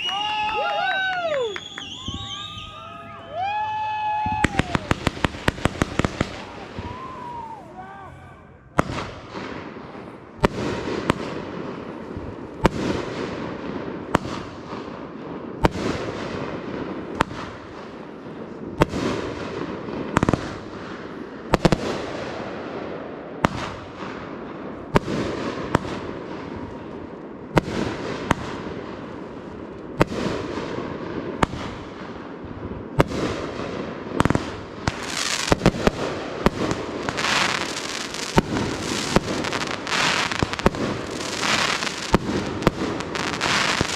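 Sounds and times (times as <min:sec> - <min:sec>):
fireworks bangs: 0:00.0 - 0:43.9
fireworks crackling: 0:00.0 - 0:43.9.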